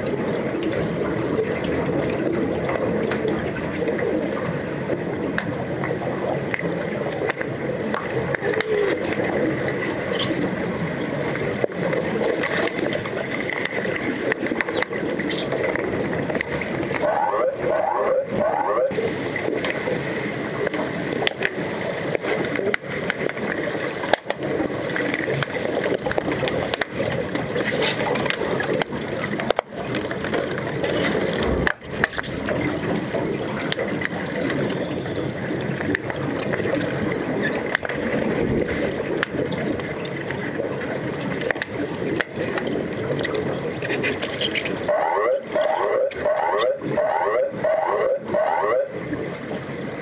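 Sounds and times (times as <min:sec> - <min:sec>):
sharp clicks underwater: 0:00.0 - 0:49.3
underwater bubbling churn: 0:00.0 - 0:50.0.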